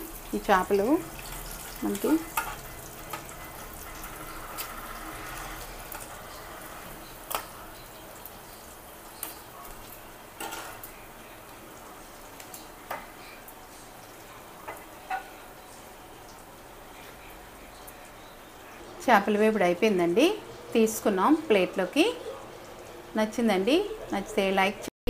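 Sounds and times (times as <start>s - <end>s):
oil sizzling in a frying pan: 0.0s - 24.9s.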